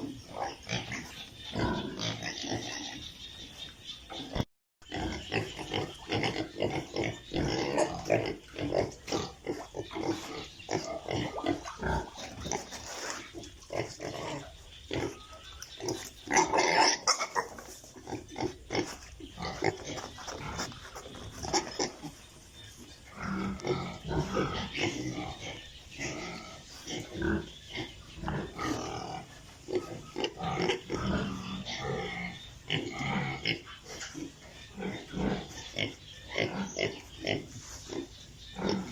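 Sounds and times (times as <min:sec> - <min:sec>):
piglets grunting and squealing: 0:00.0 - 0:38.9.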